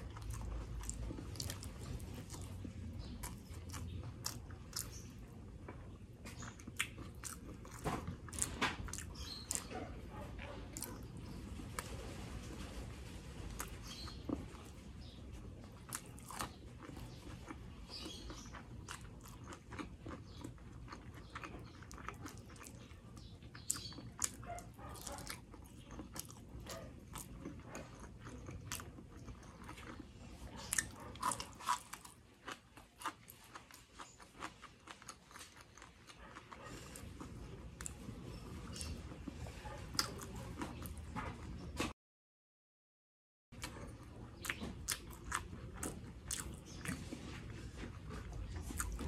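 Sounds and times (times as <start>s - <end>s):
person chewing wetly: 0.0s - 12.0s, 13.6s - 41.1s, 43.6s - 49.0s
food crunching: 0.0s - 41.4s, 43.6s - 49.0s.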